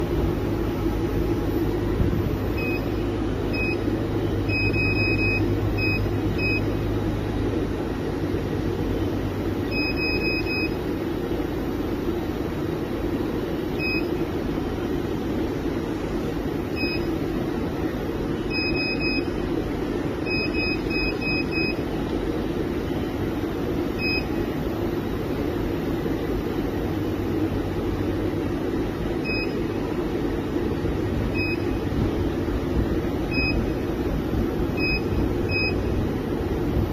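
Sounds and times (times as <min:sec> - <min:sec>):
spot welding machine humming: 0:00.0 - 0:36.9.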